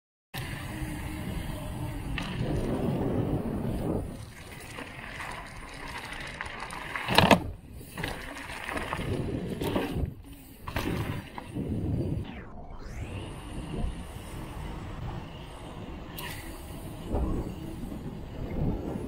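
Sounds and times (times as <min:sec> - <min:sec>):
bike tyre noise: 0:00.4 - 0:12.3, 0:13.0 - 0:19.0
wind buffeting microphone: 0:00.4 - 0:19.0.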